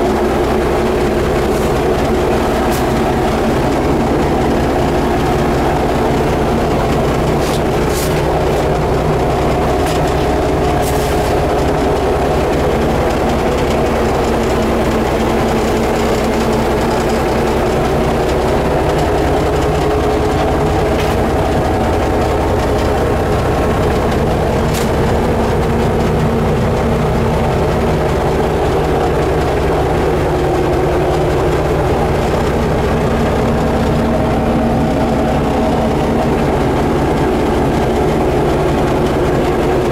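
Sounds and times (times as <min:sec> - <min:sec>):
diesel dozer engine running: 0:00.0 - 0:39.9.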